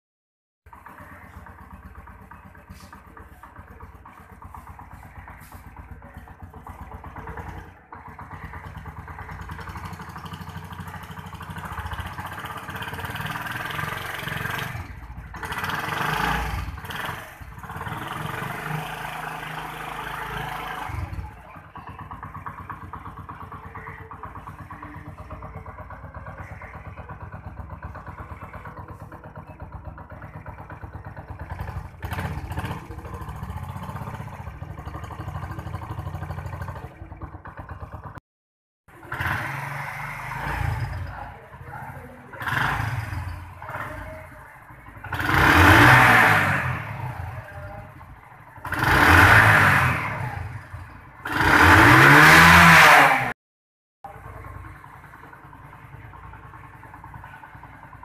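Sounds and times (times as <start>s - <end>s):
motorcycle engine running: 0.7s - 38.2s, 38.9s - 53.4s, 54.0s - 58.0s.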